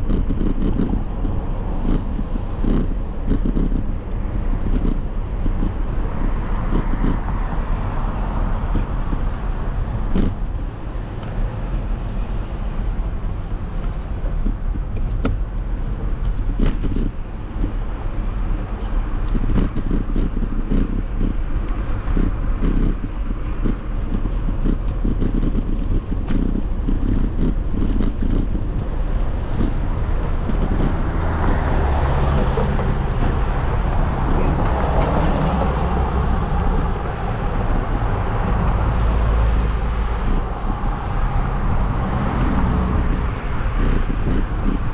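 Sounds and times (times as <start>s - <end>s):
bike clicks and rattles: 0.0s - 44.9s
road noise: 0.0s - 44.9s
wind rumbling on microphone: 0.0s - 44.9s.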